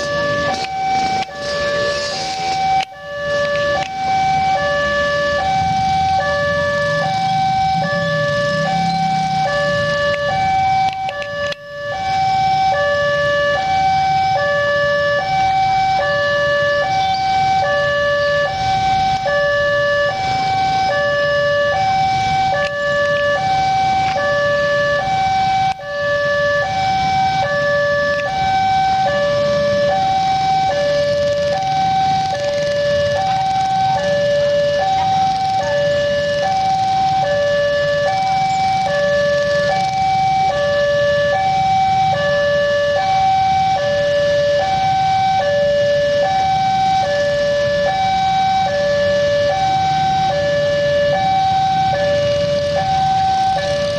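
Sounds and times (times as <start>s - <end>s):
level crossing two-tone alarm: 0.0s - 53.9s
low traffic rumble: 0.0s - 53.9s.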